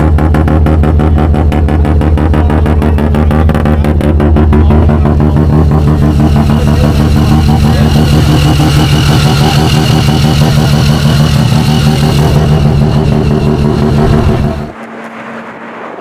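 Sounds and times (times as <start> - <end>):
rotary engine running: 0.0 - 16.0.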